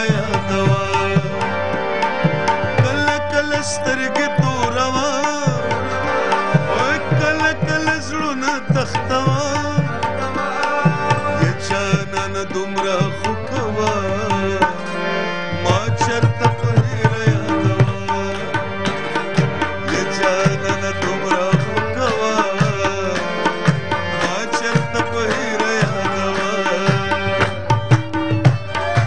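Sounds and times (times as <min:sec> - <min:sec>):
tabla drumming: 0:00.0 - 0:29.0.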